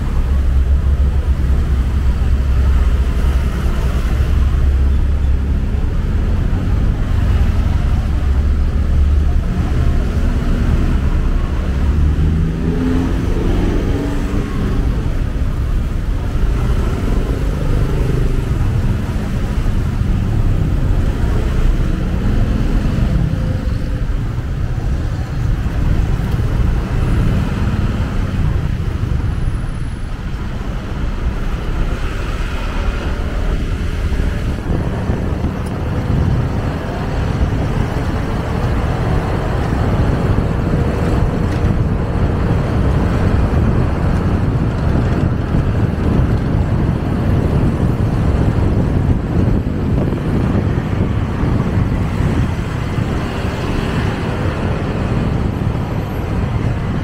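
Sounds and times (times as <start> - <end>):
low rumble of riding noise: 0.0 - 57.0.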